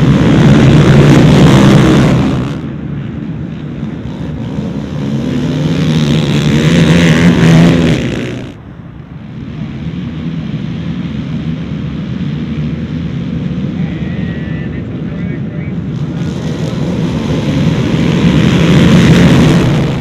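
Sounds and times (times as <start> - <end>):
quad engines revving hard: 0.0 - 8.6, 9.4 - 20.0.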